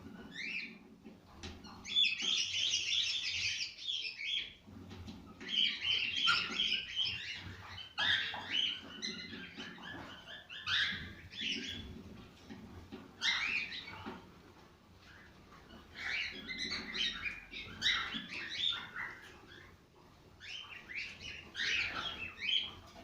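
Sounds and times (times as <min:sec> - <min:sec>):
cockatiels chirping: 0:00.0 - 0:00.8, 0:01.4 - 0:14.2, 0:15.0 - 0:23.0.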